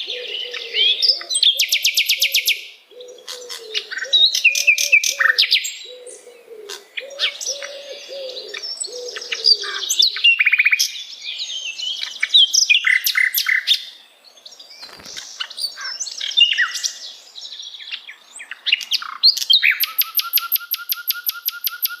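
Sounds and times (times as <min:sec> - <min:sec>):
bird singing chirps and whistles: 0:00.0 - 0:14.0, 0:14.7 - 0:22.0.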